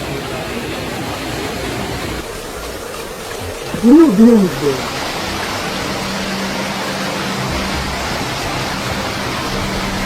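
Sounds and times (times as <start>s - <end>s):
floodwater rushing: 0.0s - 10.0s
heavy rain: 0.0s - 10.0s.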